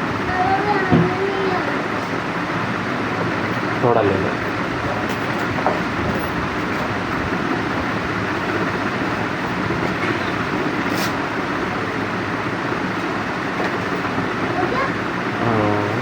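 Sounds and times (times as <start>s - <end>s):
steady machine noise: 0.0s - 16.0s.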